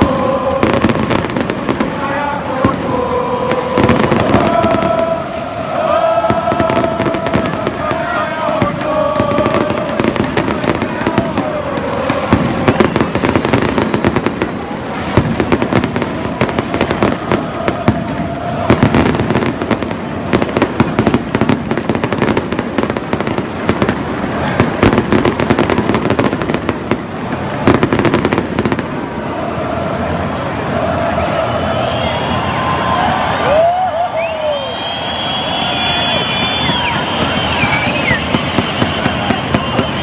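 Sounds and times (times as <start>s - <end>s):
fireworks crackling and popping: 0.0s - 40.0s
large crowd voices: 0.0s - 40.0s.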